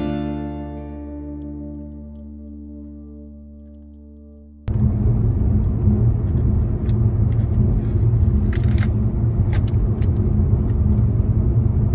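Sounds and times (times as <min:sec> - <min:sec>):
car road and engine rumble: 0:00.0 - 0:11.9.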